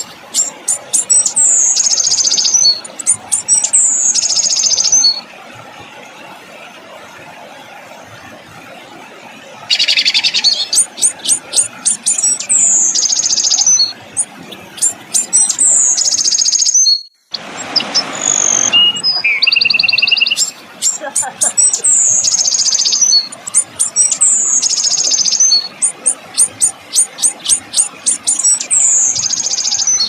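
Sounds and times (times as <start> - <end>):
songbird song: 0.0 - 8.2, 9.3 - 30.0.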